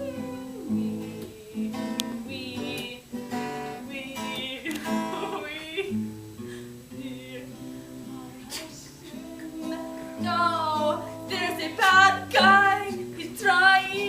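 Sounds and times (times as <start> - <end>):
strummed acoustic guitar music: 0.0 - 14.0.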